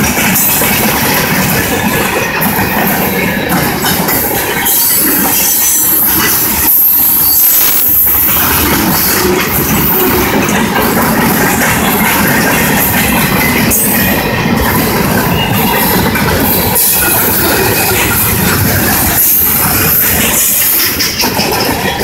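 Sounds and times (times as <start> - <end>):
freight train rumbling past: 0.0 - 22.0
steel wheels clattering on rails: 0.0 - 22.0.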